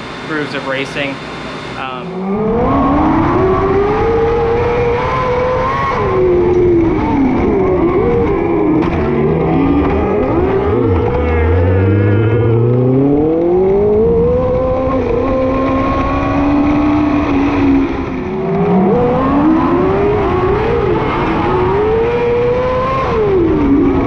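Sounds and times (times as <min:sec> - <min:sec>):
racing car engine revving hard: 0:01.8 - 0:24.0.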